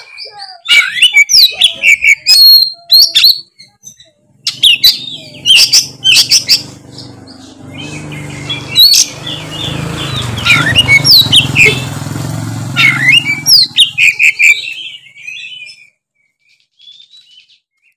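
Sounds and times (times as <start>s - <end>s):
songbird whistling and chirping: 0.0s - 12.0s, 12.8s - 17.9s.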